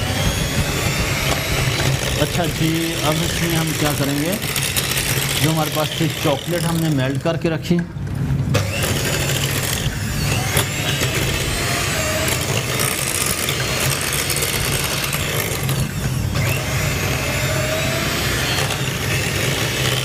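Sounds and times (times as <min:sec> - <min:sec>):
electric hand mixer whisking: 0:00.0 - 0:07.4, 0:08.6 - 0:20.0.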